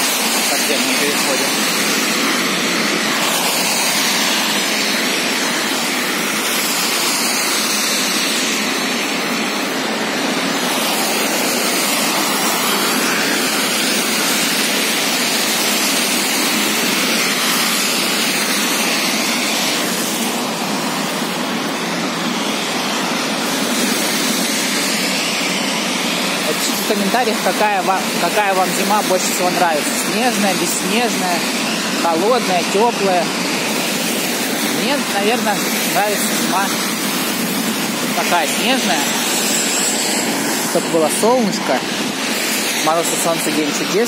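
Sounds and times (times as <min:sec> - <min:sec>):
tyres hissing on wet road: 0:00.0 - 0:44.0.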